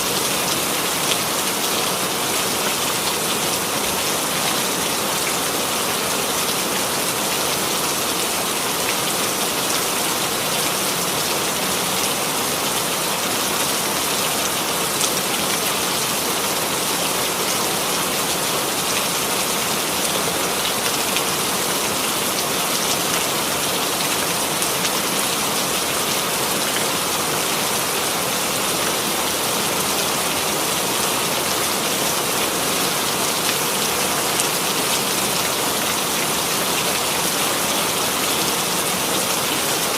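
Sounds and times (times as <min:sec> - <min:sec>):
rain on a surface: 0:00.0 - 0:39.9.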